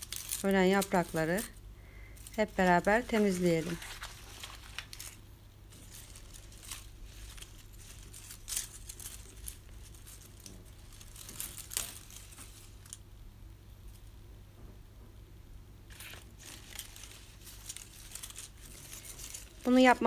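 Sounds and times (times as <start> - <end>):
dry leaves crackling and snapping: 0.0 - 13.0, 15.9 - 20.0.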